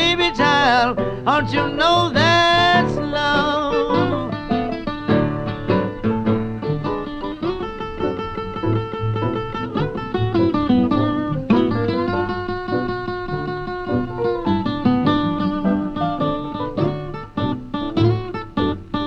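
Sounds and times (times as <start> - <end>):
blues guitar: 0.0 - 19.0.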